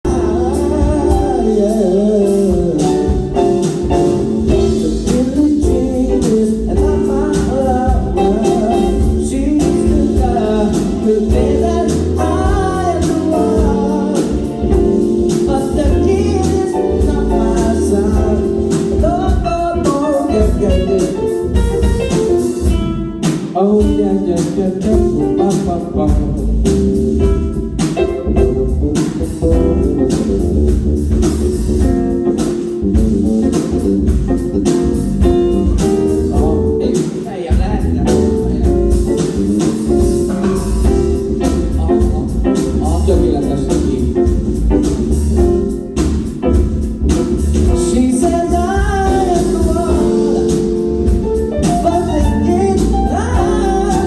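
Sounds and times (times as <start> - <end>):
person singing: 0.0 - 26.9, 32.3 - 46.1, 47.1 - 54.0
band playing: 0.0 - 54.0.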